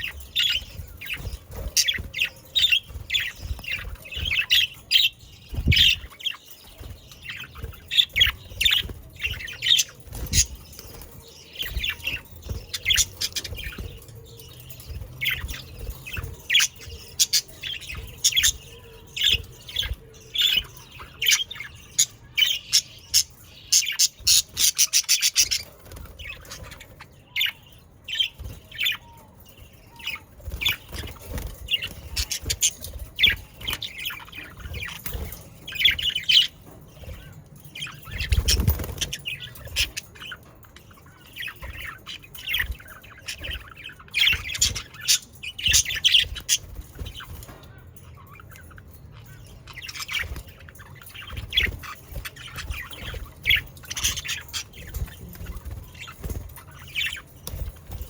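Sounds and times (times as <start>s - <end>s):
budgerigars chirping and chattering: 0.0s - 58.0s.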